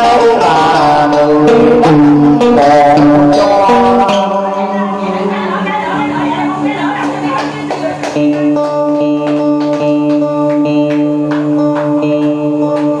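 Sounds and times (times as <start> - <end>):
instrumental backing music: 0.0 - 13.0.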